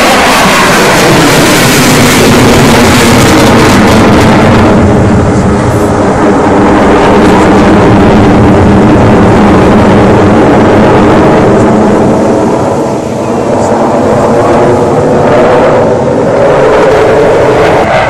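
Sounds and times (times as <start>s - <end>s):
military aircraft engine roar: 0.0s - 18.0s.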